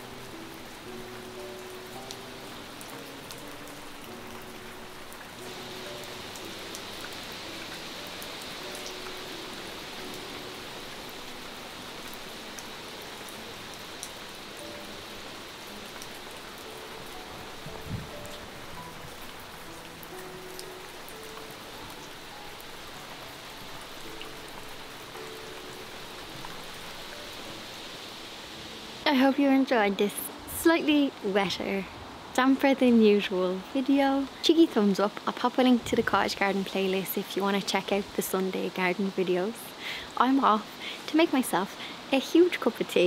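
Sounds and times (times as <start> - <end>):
soft background music: 0.0 - 43.0
steady rain falling: 0.0 - 43.0.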